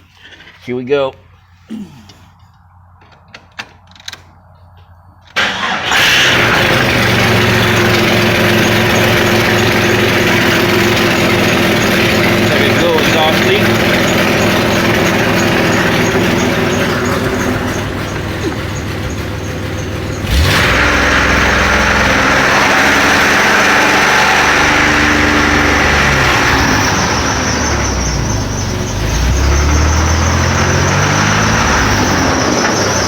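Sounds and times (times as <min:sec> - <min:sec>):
car engine revving: 0:05.4 - 0:33.0.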